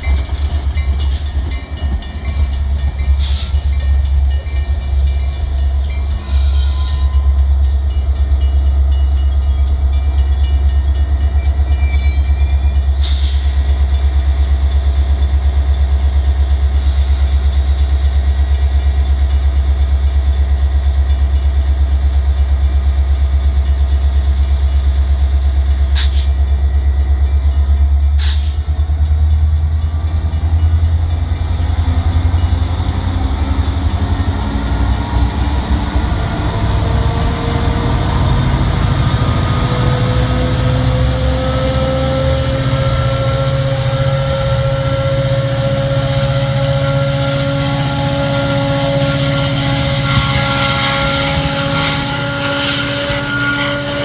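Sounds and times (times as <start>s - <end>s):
diesel locomotive engine throb: 0.0s - 54.0s.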